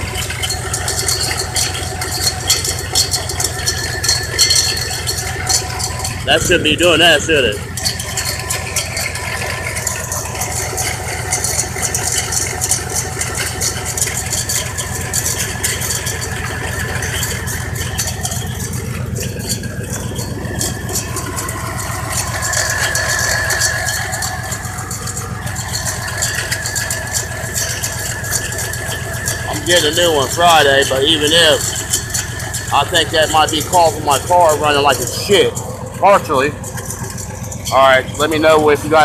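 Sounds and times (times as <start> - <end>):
car engine idling: 0.0 - 39.0
wavering whine: 0.0 - 39.0.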